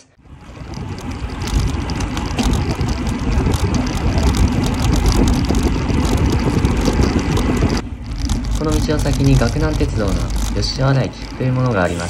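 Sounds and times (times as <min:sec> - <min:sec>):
road rumble: 0:00.0 - 0:12.0
wind on microphone: 0:00.2 - 0:11.8
bicycle rattling: 0:00.2 - 0:12.0.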